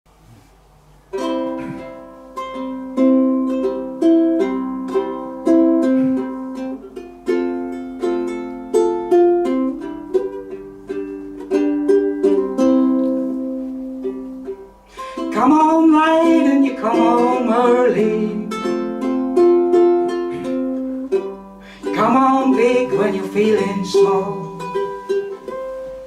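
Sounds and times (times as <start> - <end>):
acoustic plucked string instrument: 1.0 - 26.0.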